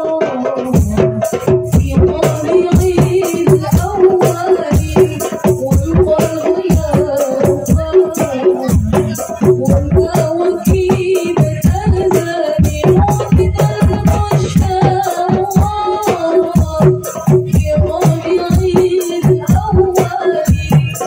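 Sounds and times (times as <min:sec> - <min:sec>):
frame drums beating fast rhythm: 0:00.0 - 0:21.0
woman singing through microphone: 0:00.0 - 0:21.0.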